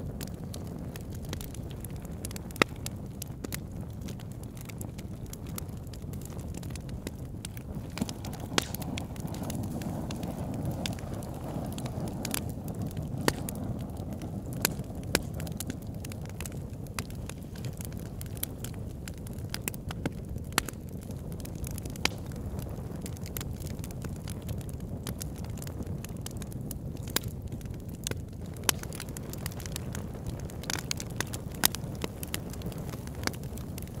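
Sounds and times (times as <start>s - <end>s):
burning wood crackling and popping: 0.0s - 34.0s
campfire flames rushing: 0.0s - 34.0s.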